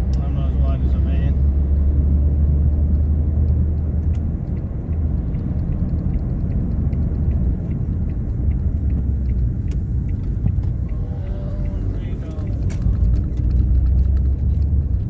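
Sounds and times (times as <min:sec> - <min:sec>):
low rumble of engine and road: 0:00.0 - 0:15.0.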